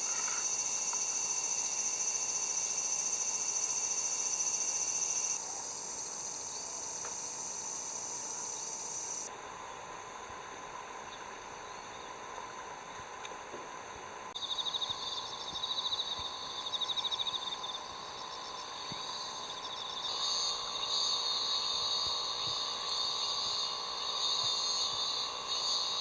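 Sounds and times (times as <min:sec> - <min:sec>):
insects trilling: 0:00.0 - 0:10.2, 0:14.3 - 0:26.0.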